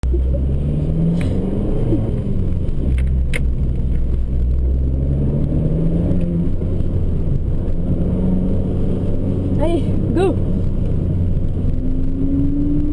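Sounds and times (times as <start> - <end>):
car engine running at low revs: 0.0 - 12.9.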